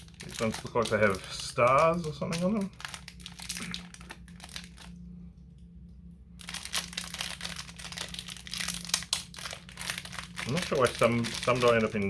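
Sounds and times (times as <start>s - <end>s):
plastic bag crinkling: 0.0s - 5.0s, 6.4s - 12.0s
faint low hum: 0.0s - 12.0s.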